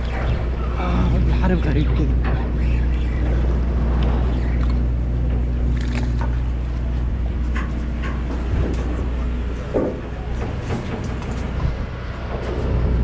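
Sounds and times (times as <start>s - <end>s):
boat engine humming: 0.0s - 13.0s
sea noise: 0.0s - 13.0s
wind: 0.0s - 13.0s.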